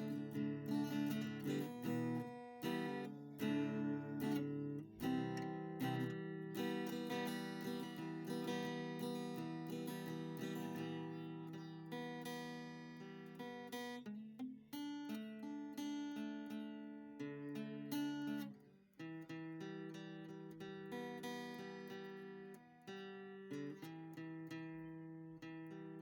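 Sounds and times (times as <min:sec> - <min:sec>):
acoustic guitar plucked and strummed: 0:00.0 - 0:26.0.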